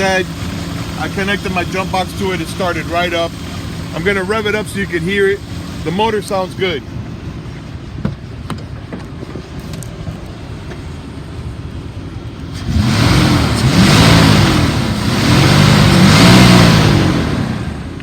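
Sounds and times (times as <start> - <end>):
truck engine idling and revving: 0.0 - 18.0.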